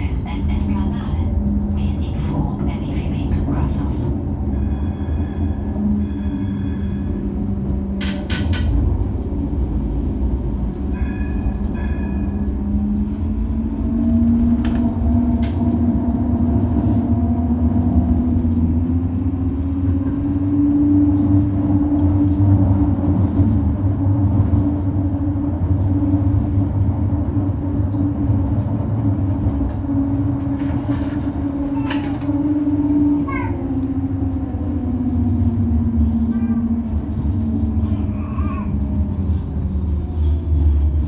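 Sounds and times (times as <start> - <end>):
low motor hum: 0.0 - 41.0
tram rolling rumble: 0.0 - 41.0.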